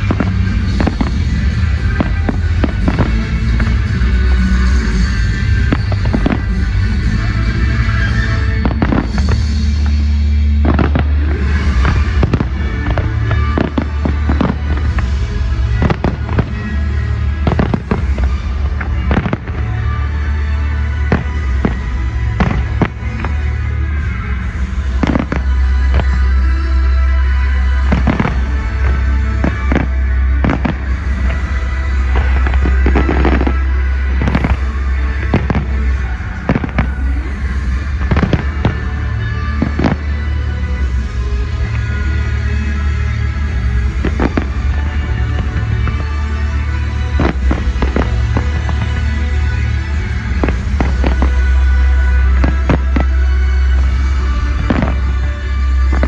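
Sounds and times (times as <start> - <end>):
fireworks bangs and cracks: 0.0 - 56.0
loud music with heavy bass: 0.0 - 56.0.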